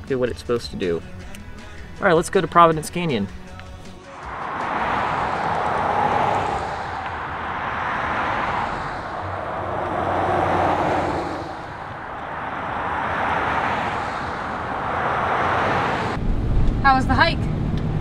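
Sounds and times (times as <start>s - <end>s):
vehicles passing on road: 0.0s - 18.0s
car pulling out and driving off: 3.3s - 18.0s.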